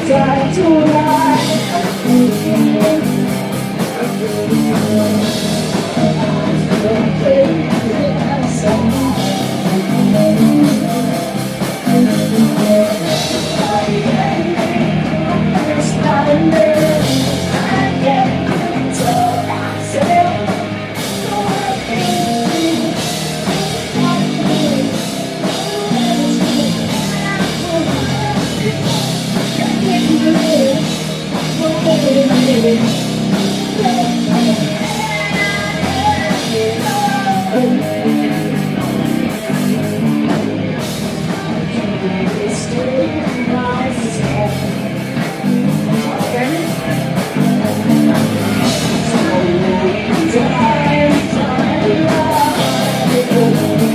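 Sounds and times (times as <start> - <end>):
drums: 0.0 - 53.9
electric guitars: 0.0 - 53.9
person singing: 0.0 - 53.9.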